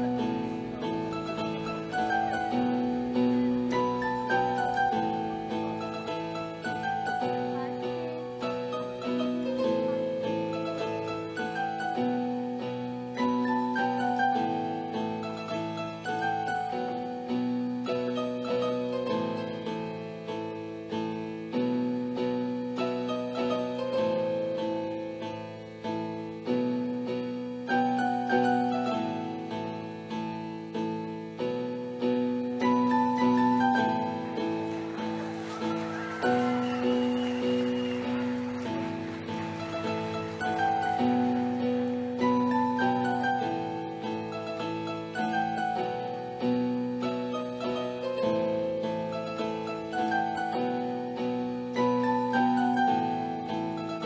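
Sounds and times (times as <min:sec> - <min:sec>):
piano notes and chords: 0:00.0 - 0:54.0.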